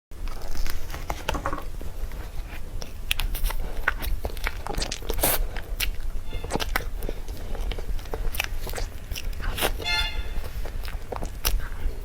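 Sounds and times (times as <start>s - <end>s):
steady low hum: 0.2s - 12.0s
wet chewing and smacking: 0.2s - 12.0s.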